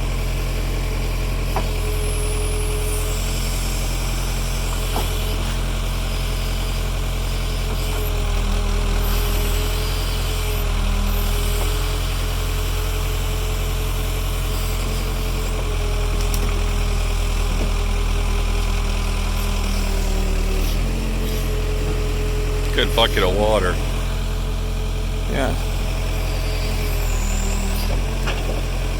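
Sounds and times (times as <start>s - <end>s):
backhoe diesel engine running: 0.0s - 28.9s.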